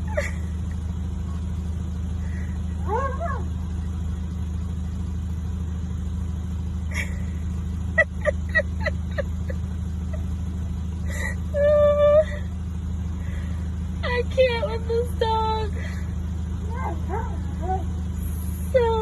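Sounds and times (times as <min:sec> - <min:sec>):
engine rumble: 0:00.0 - 0:19.0.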